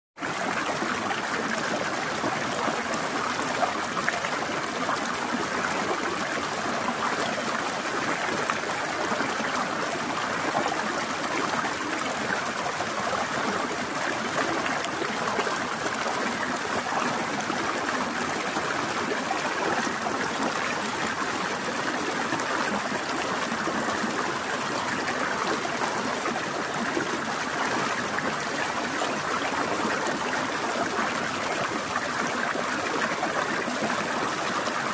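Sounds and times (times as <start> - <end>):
stream flowing over rocks: 0.2 - 34.9.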